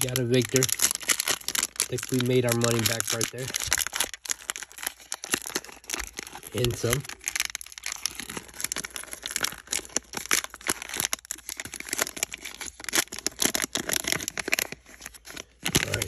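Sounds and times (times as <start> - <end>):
wrapper crinkling and tearing: 0.0 - 16.0.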